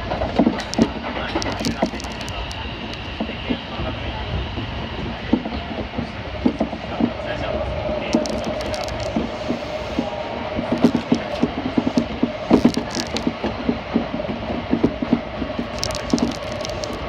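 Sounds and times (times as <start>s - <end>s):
clicks and rattles of train car: 0.0s - 4.0s, 4.6s - 7.2s, 8.0s - 17.0s
train running rumble: 0.0s - 17.0s.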